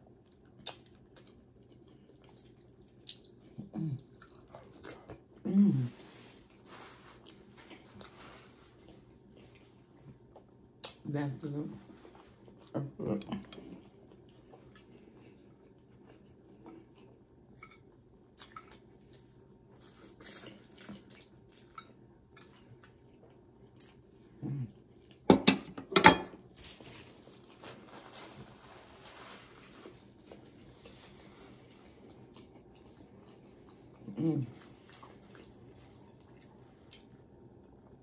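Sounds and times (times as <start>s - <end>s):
person chewing noodles: 0.0s - 11.0s, 11.9s - 25.3s, 30.0s - 38.0s.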